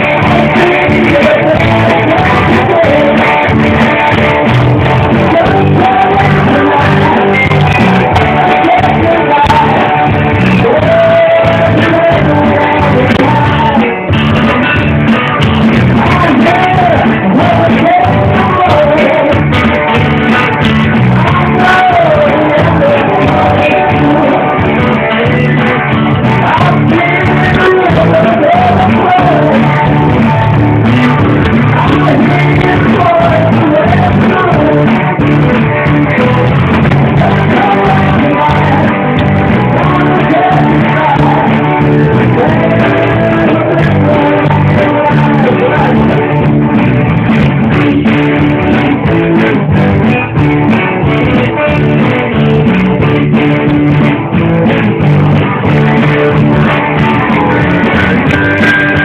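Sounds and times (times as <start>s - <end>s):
guitar: 0.0s - 59.0s
live band playing: 0.0s - 59.0s
person singing: 0.0s - 59.0s.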